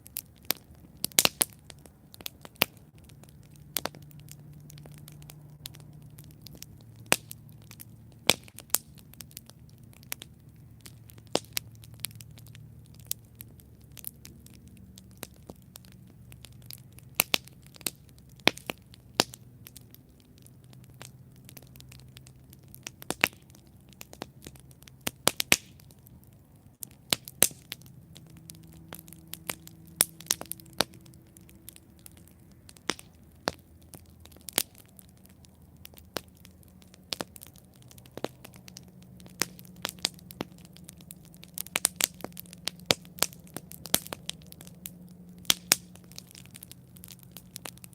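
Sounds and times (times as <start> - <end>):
campfire crackling and popping: 0.0 - 47.9
low rumble of flames: 0.0 - 47.9.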